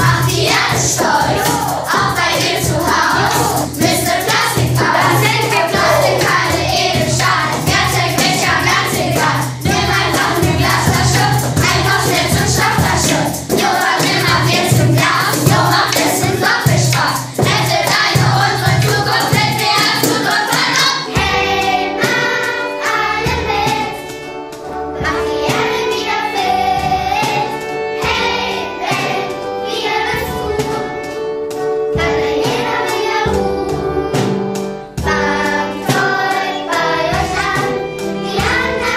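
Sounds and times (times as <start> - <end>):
children singing: 0.0 - 24.4, 25.0 - 38.9.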